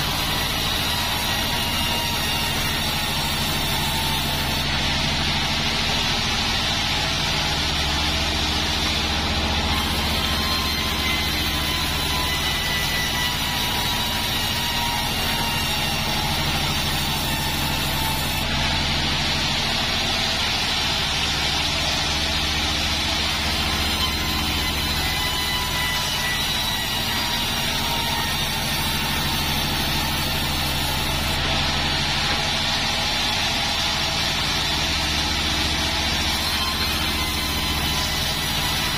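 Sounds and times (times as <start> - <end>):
band saw machine drone: 0.0 - 38.9.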